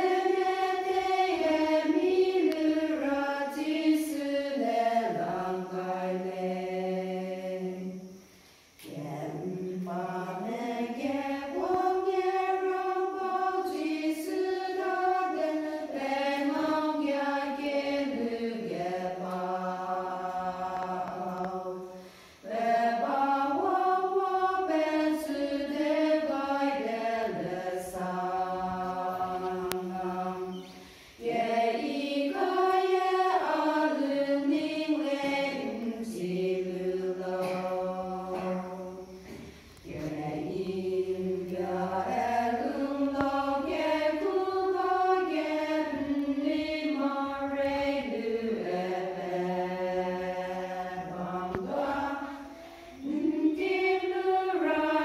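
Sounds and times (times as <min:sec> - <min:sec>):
women's choir singing: 0:00.0 - 0:55.0.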